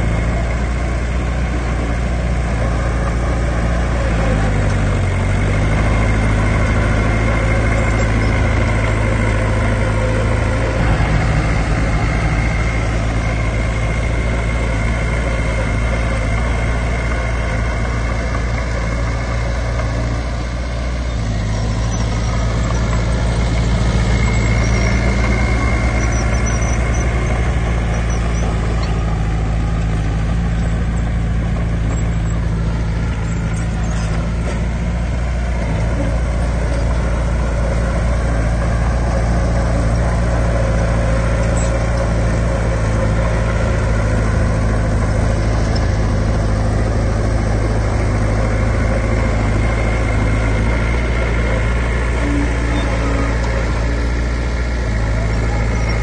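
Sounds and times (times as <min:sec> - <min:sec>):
diesel engine running loudly: 0:00.0 - 0:56.0.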